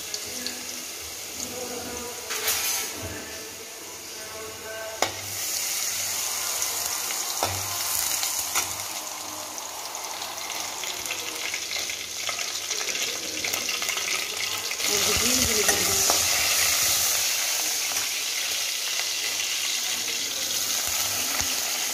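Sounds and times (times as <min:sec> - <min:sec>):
paste sizzling in hot oil: 0:00.0 - 0:21.9.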